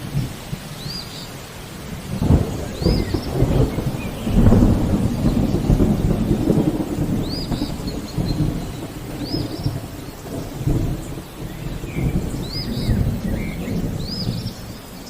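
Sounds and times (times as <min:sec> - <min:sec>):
steady rain: 0:00.0 - 0:15.0
thunder rumbling: 0:00.0 - 0:15.0
bird chirp: 0:02.2 - 0:15.0.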